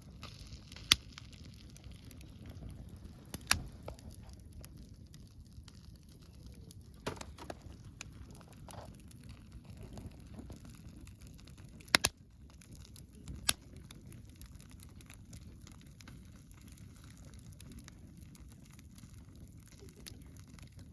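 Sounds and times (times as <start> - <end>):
campfire crackling: 0.0 - 20.9
low fire rumble: 0.0 - 20.9
sharp fire pops: 0.0 - 20.9.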